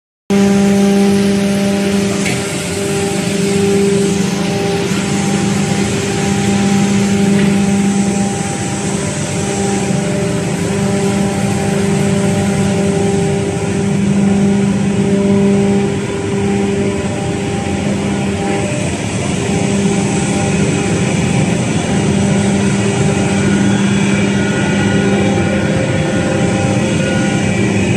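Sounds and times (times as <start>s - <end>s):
industrial machine drone: 0.3s - 27.9s.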